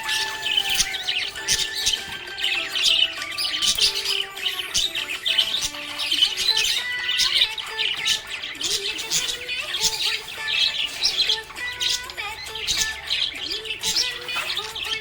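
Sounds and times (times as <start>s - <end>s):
background music with held notes: 0.0s - 15.0s
parrots chirping: 0.0s - 15.0s.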